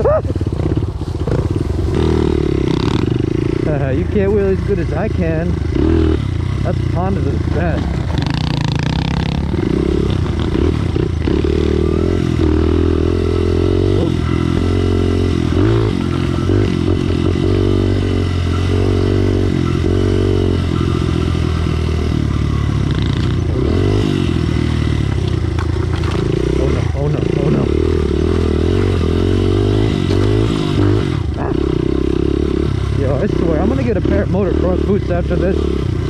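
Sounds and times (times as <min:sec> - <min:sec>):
pit bike engine revving: 0:00.0 - 0:36.0.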